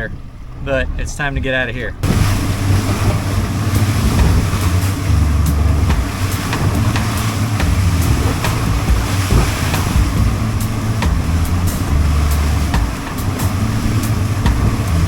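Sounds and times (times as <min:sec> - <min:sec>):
boat engine drone: 0:00.0 - 0:15.0
hull slapping waves: 0:00.0 - 0:15.0
wind and water rushing: 0:00.0 - 0:15.0.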